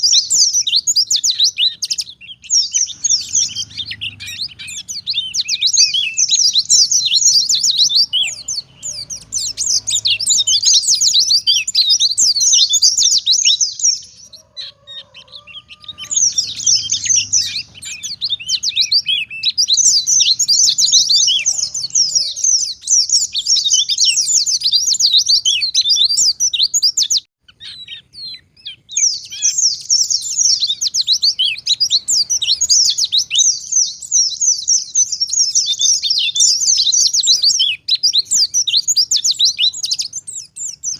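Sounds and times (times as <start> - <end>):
bird high twittering song: 0.0 - 40.9.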